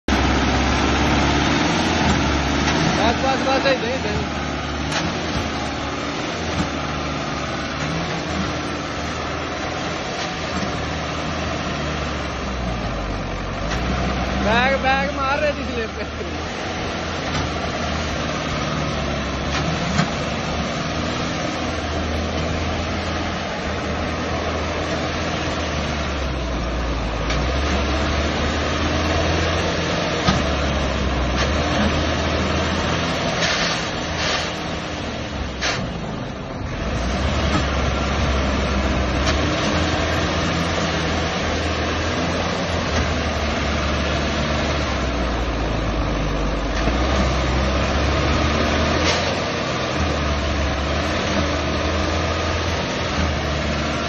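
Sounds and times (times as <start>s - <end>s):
tractor diesel engine straining: 0.0s - 54.0s.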